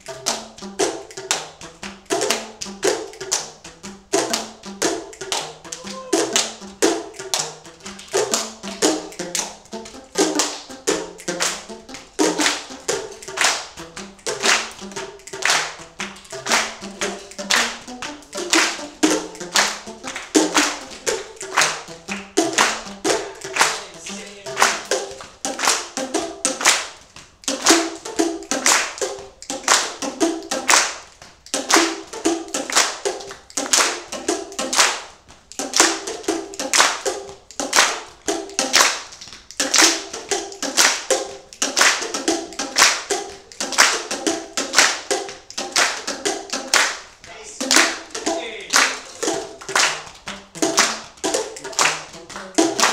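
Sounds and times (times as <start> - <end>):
tuned plastic tubes struck: 0.0 - 52.9.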